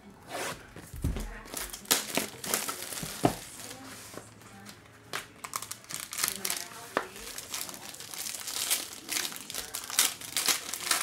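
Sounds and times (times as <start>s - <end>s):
plastic wrapping crinkling and tearing: 1.0s - 4.2s, 5.1s - 11.0s.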